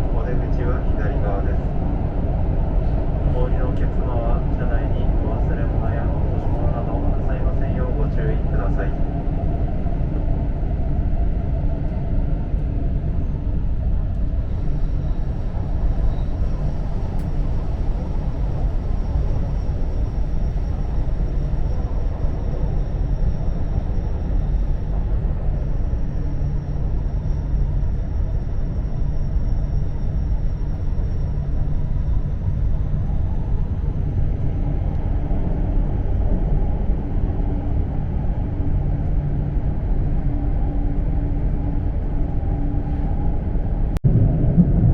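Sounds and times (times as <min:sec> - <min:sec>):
faint high whine: 0:00.0 - 0:44.2
train rumbling: 0:00.0 - 0:44.9.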